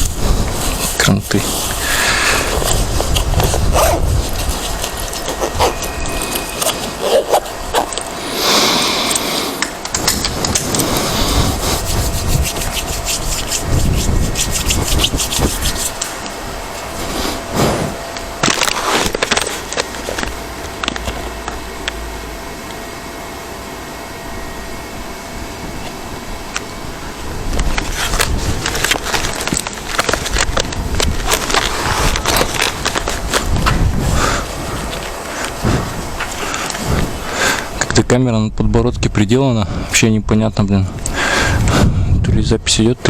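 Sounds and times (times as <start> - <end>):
rustling and crackling at microphone: 0.0 - 22.9, 25.8 - 39.9, 40.7 - 43.0.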